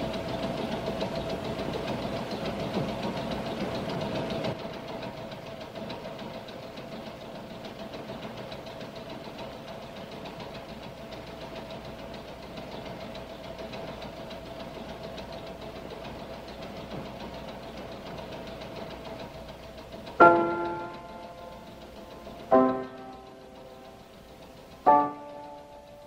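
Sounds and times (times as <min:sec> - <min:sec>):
constant hum: 0:00.0 - 0:26.0
subway car rumble and rattle: 0:00.0 - 0:26.0.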